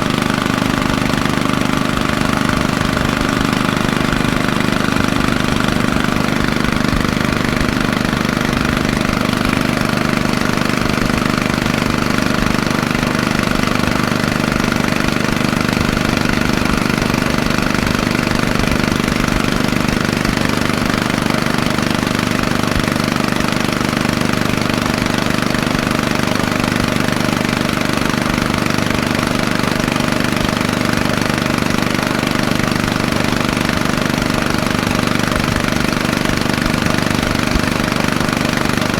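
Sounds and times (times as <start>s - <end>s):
diesel compressor engine running: 0.0s - 38.9s.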